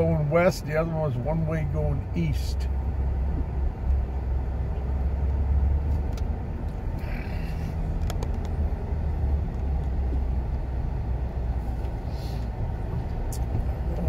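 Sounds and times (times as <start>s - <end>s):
car driving low rumble: 0.0s - 14.0s.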